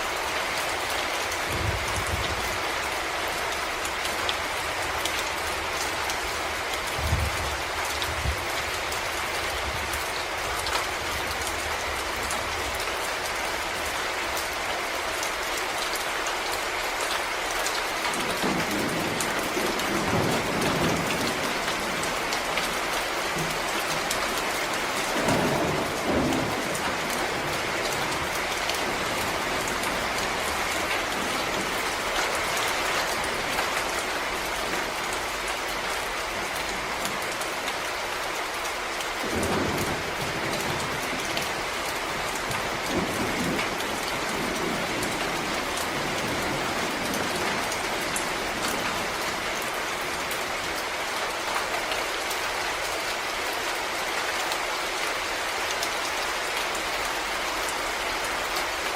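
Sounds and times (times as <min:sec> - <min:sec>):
rain falling on leaves: 0:00.0 - 0:58.9.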